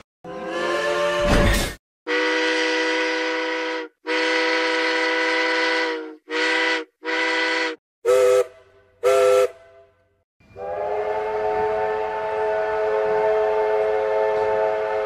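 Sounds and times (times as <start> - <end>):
steam locomotive chime whistle: 2.1 - 15.0.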